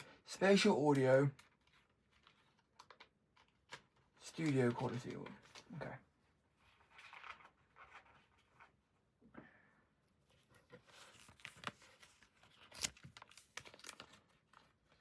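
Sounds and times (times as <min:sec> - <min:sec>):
paper rustling: 0:01.0 - 0:05.9, 0:06.5 - 0:08.9, 0:10.2 - 0:15.0.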